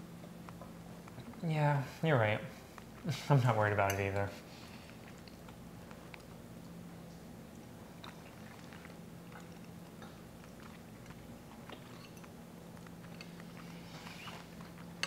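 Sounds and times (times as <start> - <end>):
steady low hum: 0.0 - 15.0
faint chewing: 0.2 - 1.4, 2.5 - 15.0.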